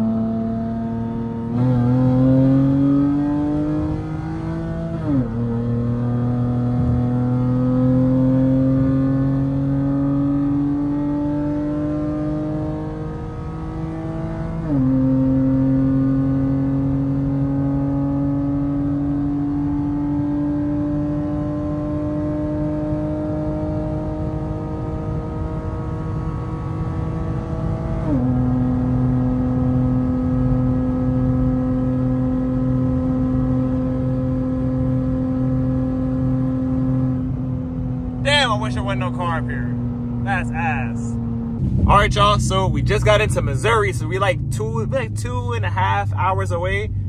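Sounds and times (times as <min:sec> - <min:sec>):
car engine accelerating: 0:00.0 - 0:47.0.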